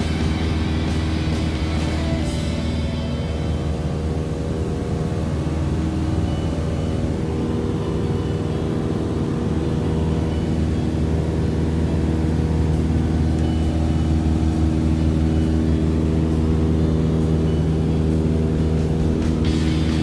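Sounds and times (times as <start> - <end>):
airplane engine droning: 0.0 - 20.0.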